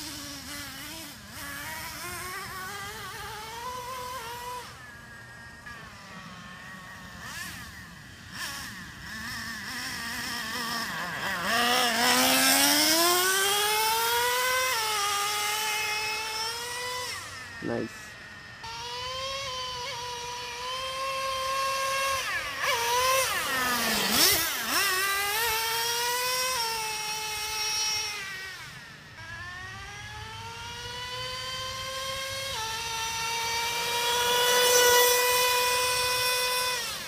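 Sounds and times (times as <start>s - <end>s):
small engine revving high: 0.0s - 37.0s.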